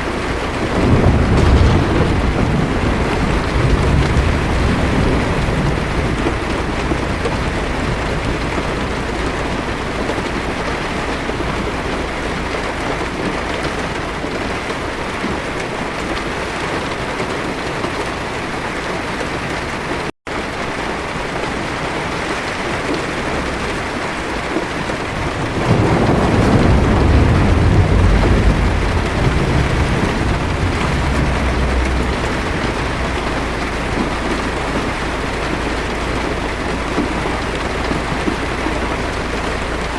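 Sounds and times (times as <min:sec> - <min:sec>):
thunder rumble: 0:00.0 - 0:19.3, 0:22.1 - 0:39.9
heavy rain on car roof: 0:00.0 - 0:39.9.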